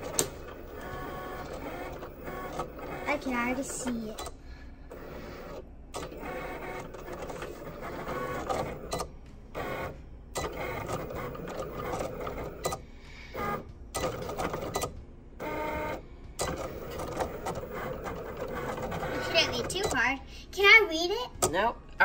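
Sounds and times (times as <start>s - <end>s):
cutting machine motors whirring: 0.0s - 20.1s.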